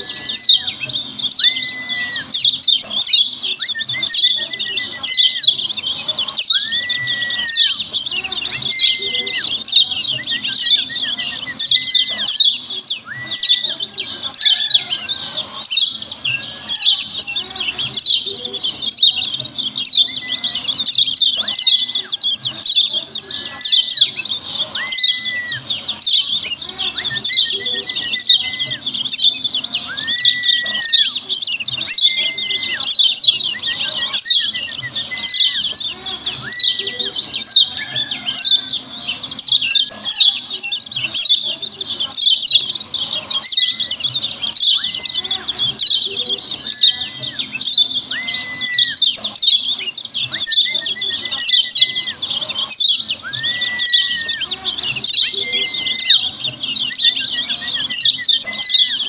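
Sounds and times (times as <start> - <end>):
rapid high bird chirps: 0.0 - 59.0.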